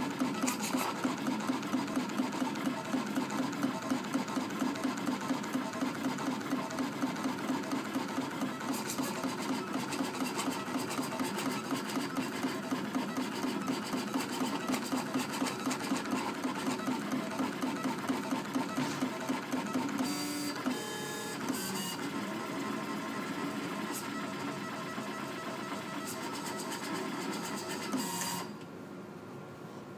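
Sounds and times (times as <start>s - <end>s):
vinyl cutter motors whirring: 0.0s - 28.6s.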